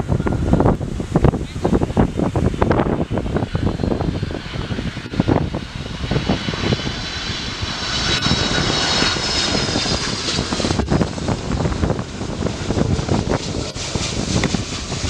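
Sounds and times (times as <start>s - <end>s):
jet engines rumbling and whining: 0.0s - 15.0s
wind buffeting microphone: 0.0s - 15.0s.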